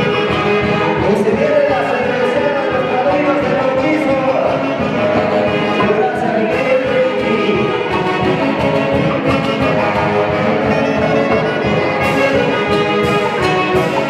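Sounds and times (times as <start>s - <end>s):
festive band with violins and winds: 0.0s - 14.0s.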